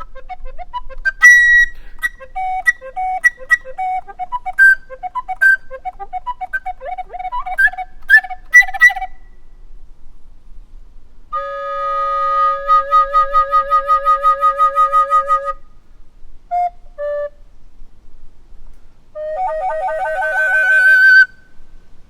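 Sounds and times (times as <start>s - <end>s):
solo recorder playing: 0.0s - 9.5s, 11.3s - 15.8s, 16.5s - 17.5s, 19.1s - 21.7s.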